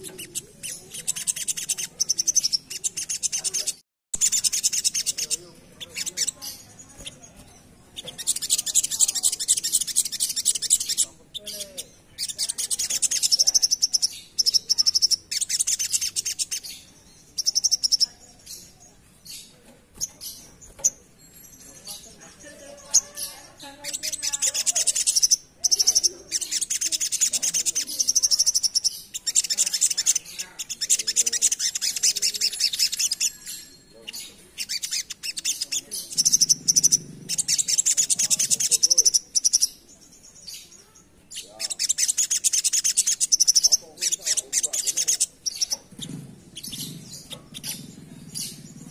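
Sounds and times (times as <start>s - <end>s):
bird singing rapid trills: 0.0s - 48.9s
soft bird chirps: 0.0s - 48.9s.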